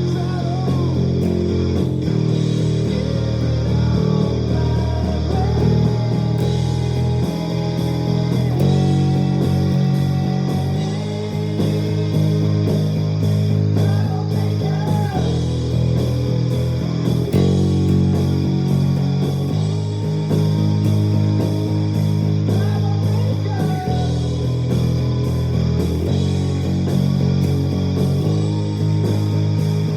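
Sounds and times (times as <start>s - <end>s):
electric bass notes: 0.0s - 29.9s
rock backing track: 0.0s - 29.9s.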